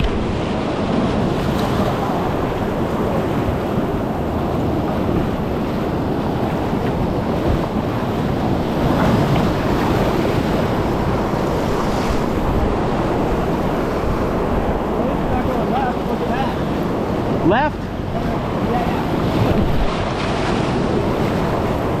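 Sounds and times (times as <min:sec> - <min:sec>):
river water rushing and splashing: 0:00.0 - 0:22.0
wind buffeting microphone: 0:00.0 - 0:22.0.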